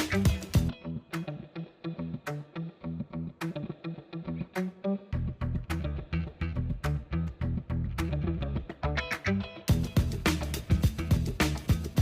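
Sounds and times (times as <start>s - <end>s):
instrumental music with plucked guitar: 0.0s - 12.0s.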